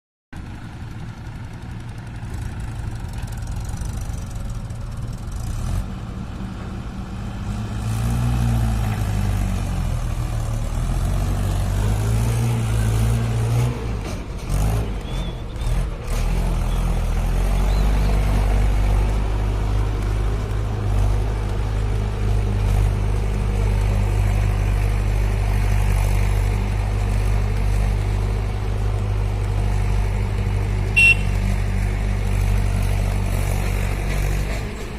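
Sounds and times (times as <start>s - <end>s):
tractor diesel engine running: 0.4s - 34.9s.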